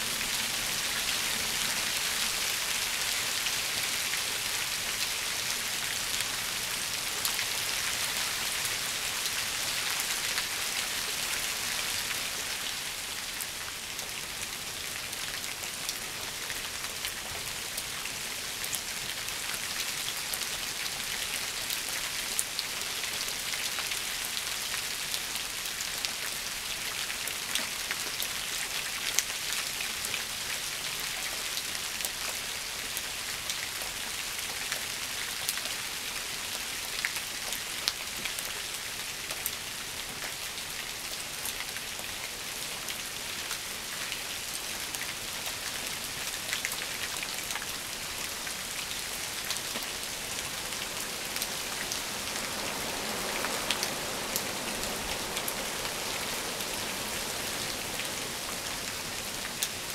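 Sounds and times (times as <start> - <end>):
rain hissing on shrubs: 0.0 - 59.9.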